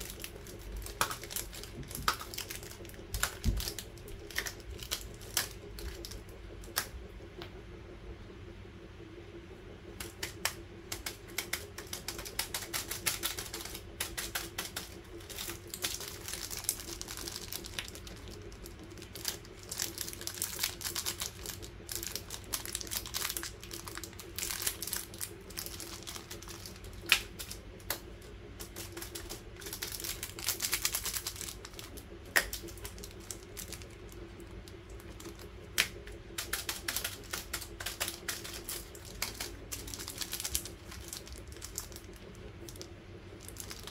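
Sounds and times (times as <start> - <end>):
plastic wrappers crinkling: 0.0 - 6.9, 10.0 - 43.9
steady low hum: 0.0 - 43.9.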